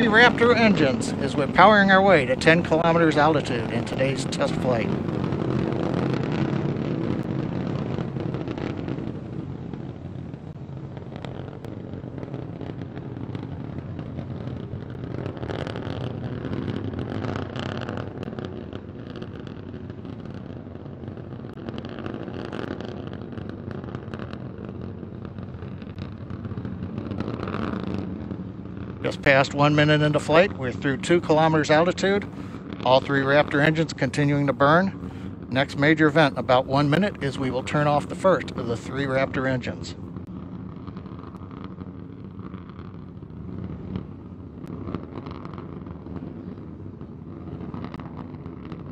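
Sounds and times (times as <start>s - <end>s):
rocket engines roaring: 0.0s - 48.9s.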